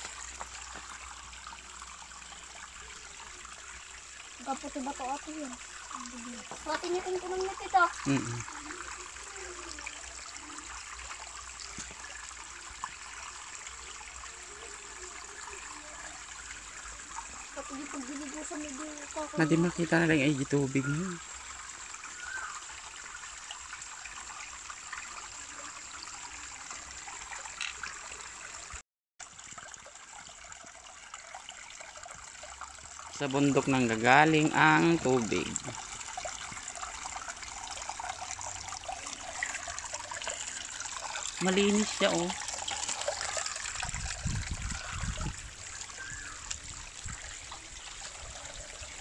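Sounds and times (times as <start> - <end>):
stream splashing over rocks: 0.0 - 49.0.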